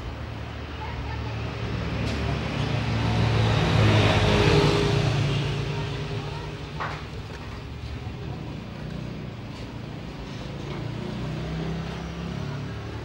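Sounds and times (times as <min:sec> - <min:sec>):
vehicle passing by: 0:00.5 - 0:13.0.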